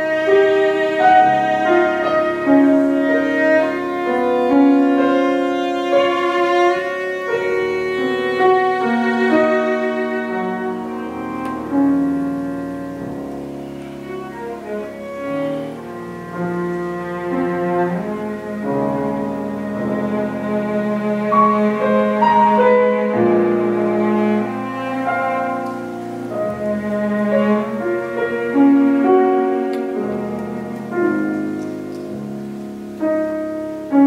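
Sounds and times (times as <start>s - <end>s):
bowed cello notes: 0.0s - 34.0s
piano accompaniment: 0.0s - 34.0s.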